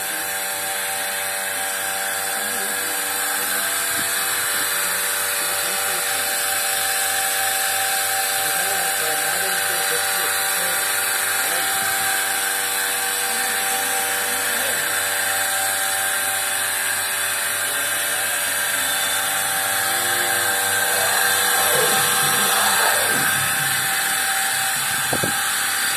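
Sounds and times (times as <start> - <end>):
vacuum pump humming: 0.0 - 25.9.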